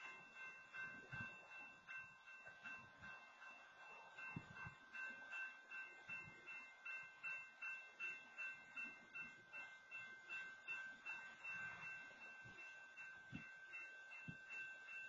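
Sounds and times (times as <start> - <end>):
railroad crossing bell ringing: 0.0 - 15.0.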